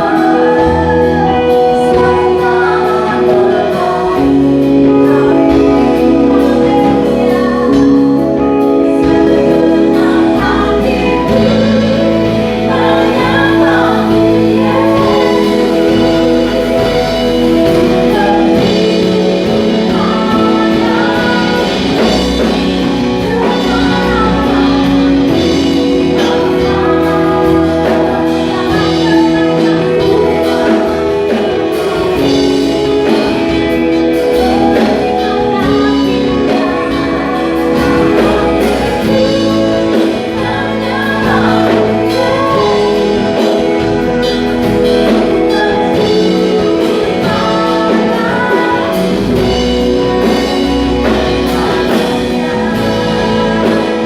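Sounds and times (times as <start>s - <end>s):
singers with band gospel song: 0.0s - 54.0s.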